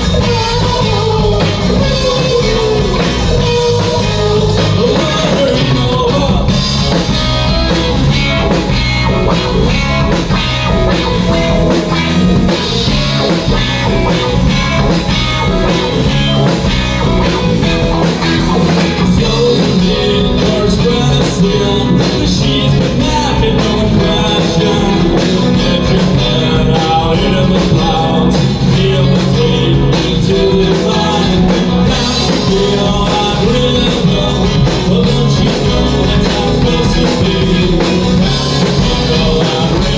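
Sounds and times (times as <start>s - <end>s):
rock music with singing: 0.0s - 39.9s.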